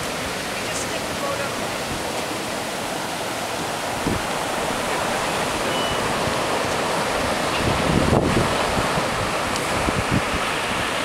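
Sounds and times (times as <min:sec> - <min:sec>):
surf washing up a boat ramp: 0:00.0 - 0:11.0.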